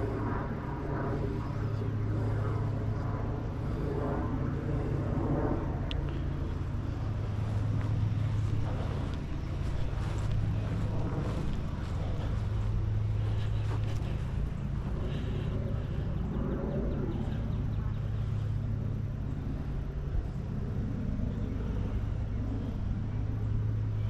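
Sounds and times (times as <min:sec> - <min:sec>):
constant low hum: 0:00.0 - 0:24.0
motor vehicles rumbling: 0:00.0 - 0:24.0.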